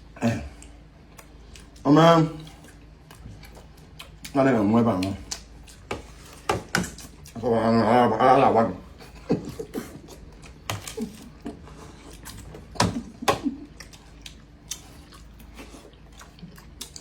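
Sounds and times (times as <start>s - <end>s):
chewing: 0.4s - 7.5s, 9.0s - 17.0s.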